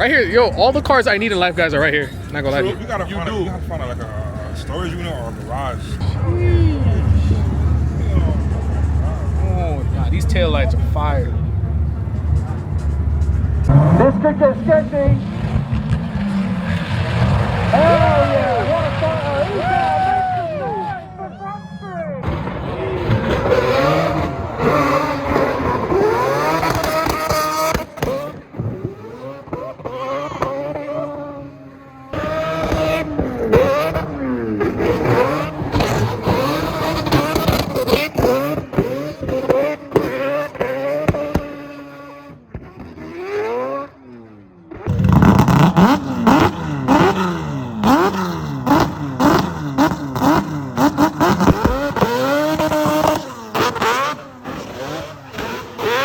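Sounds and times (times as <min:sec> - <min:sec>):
car engines revving hard: 0:00.0 - 0:21.6, 0:22.2 - 0:56.0.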